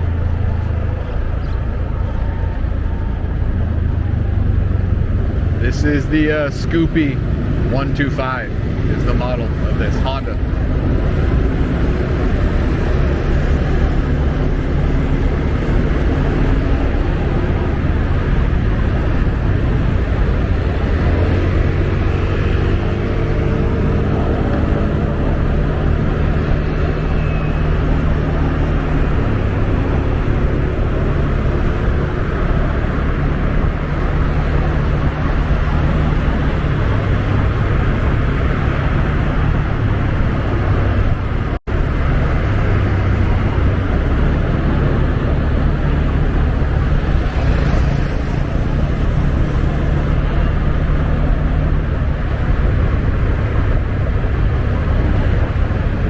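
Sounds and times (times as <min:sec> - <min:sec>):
road noise: 0:00.0 - 0:56.0
scooter engine hum: 0:00.0 - 0:56.0.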